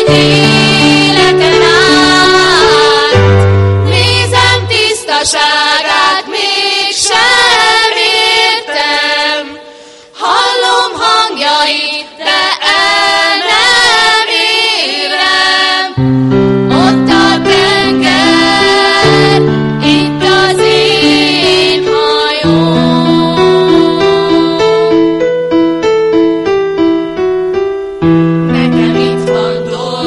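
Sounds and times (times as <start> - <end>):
women singing together: 0.0 - 16.0, 16.7 - 24.9, 28.6 - 30.0.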